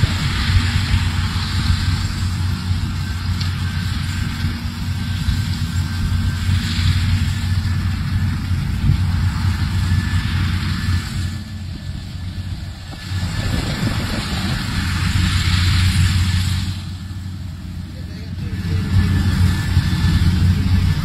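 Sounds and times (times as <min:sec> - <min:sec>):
diesel engines humming under load: 0:00.0 - 0:21.0.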